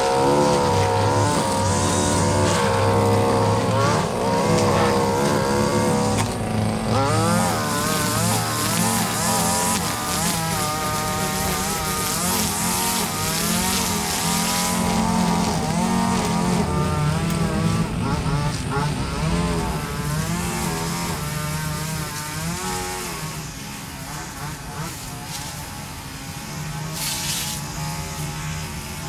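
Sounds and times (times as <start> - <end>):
string trimmer engine running: 0.0 - 29.0.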